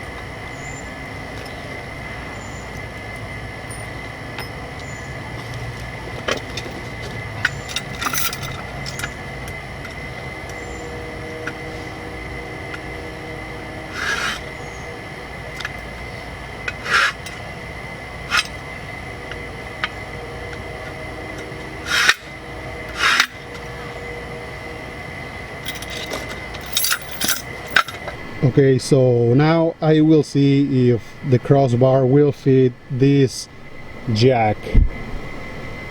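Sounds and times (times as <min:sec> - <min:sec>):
steady background hum: 0:00.0 - 0:35.9.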